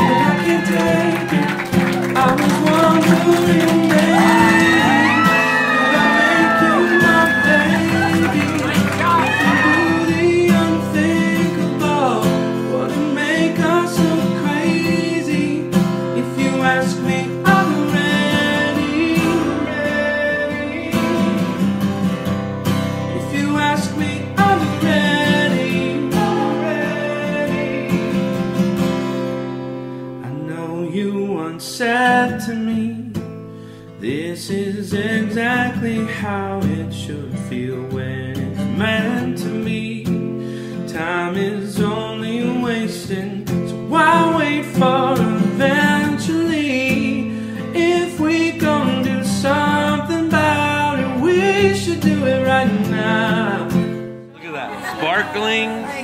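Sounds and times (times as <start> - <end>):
song with acoustic guitar and singing: 0.0 - 56.0.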